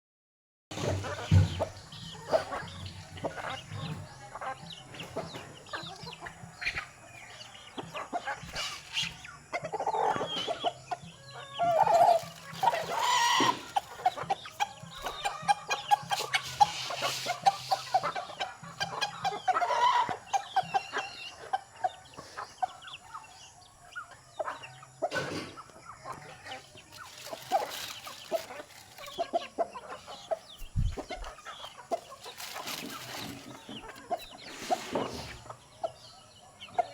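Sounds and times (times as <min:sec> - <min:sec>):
chickens calling and clucking: 0:00.7 - 0:36.9.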